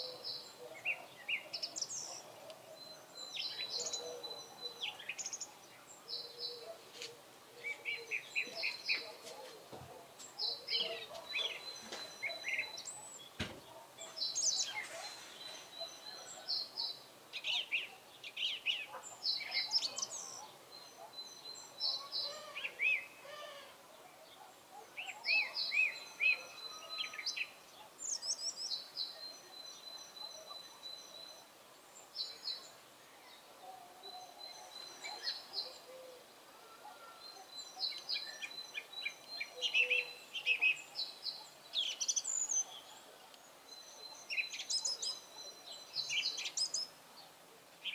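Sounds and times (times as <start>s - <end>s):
song thrush singing: 0.0s - 36.5s, 37.2s - 47.9s.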